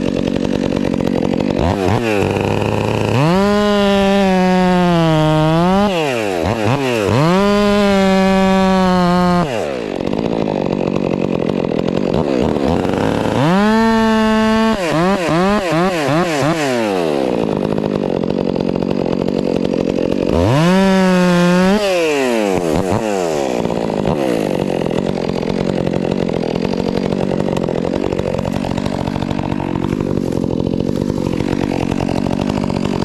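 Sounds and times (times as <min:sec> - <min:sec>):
chainsaw revving and cutting: 0:00.0 - 0:33.0.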